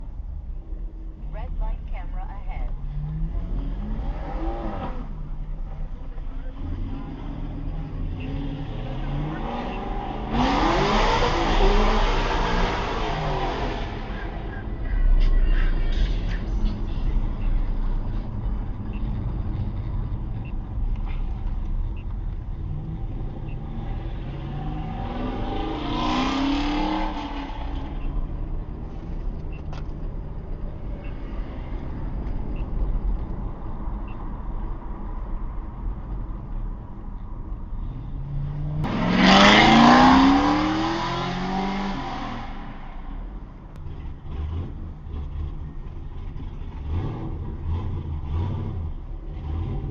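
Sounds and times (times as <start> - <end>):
car engine rumbling and accelerating: 0.0 - 49.9.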